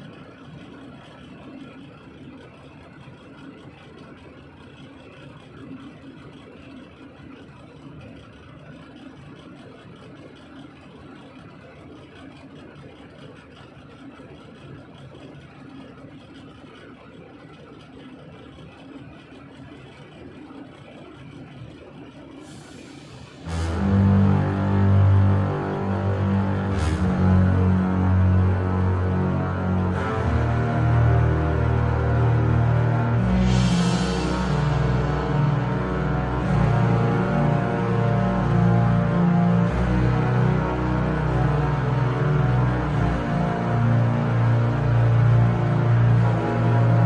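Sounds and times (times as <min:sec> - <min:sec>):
truck engine and road noise: 0:00.0 - 0:47.0.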